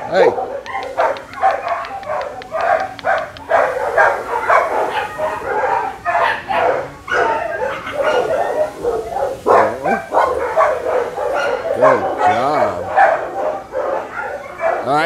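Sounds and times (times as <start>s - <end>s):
dogs barking: 0.0s - 15.0s.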